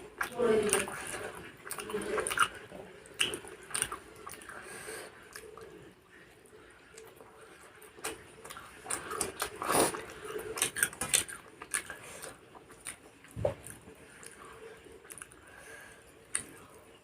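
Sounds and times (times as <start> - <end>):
person chewing: 0.0 - 6.2, 6.9 - 17.0.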